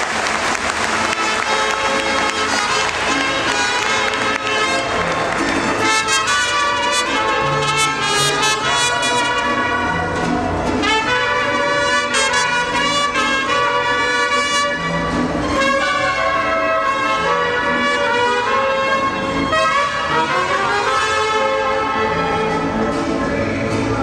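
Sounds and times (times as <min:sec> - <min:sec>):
mariachi band playing: 0:00.0 - 0:24.0
trumpets playing melody: 0:00.2 - 0:23.1.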